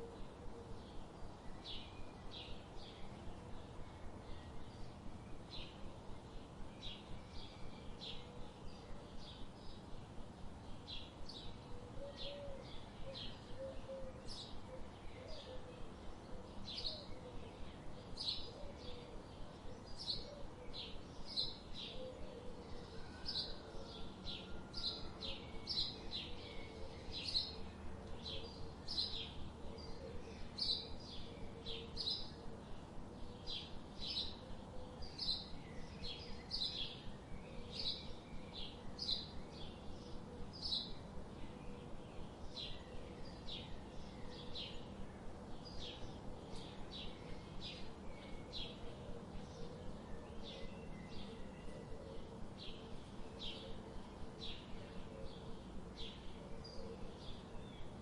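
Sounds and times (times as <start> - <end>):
faint low warbling bird call: 11.4 - 58.0.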